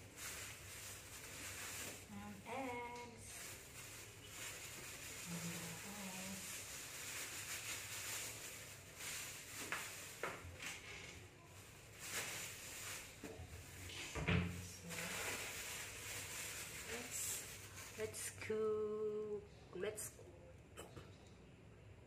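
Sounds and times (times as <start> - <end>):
plastic bags rustling: 0.0 - 18.6.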